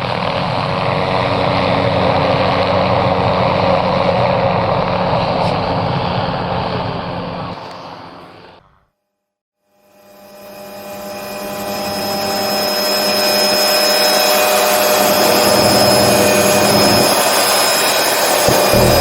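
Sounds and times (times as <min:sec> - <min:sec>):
helicopter rotor noise: 0:00.0 - 0:08.6, 0:09.7 - 0:19.0
helicopter turbine whine: 0:00.0 - 0:08.6, 0:09.6 - 0:19.0.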